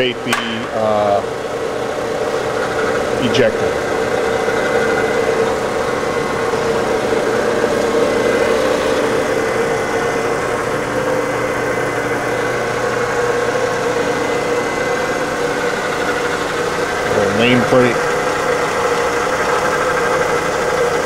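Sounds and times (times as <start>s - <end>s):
grinder motors humming: 0.0s - 21.0s.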